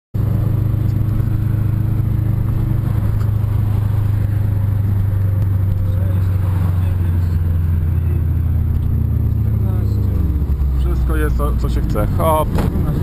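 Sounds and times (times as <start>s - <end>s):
car engine cruising: 0.2s - 13.0s.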